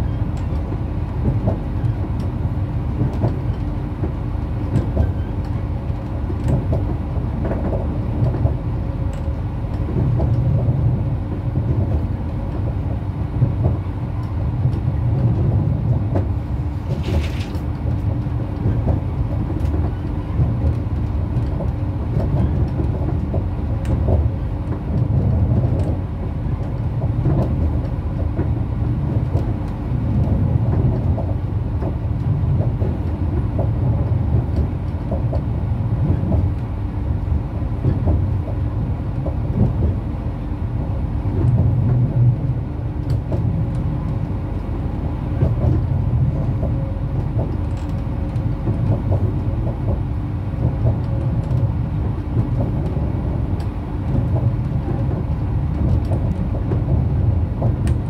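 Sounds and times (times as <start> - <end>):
railcar wheels rumbling on rail: 0.0 - 58.0.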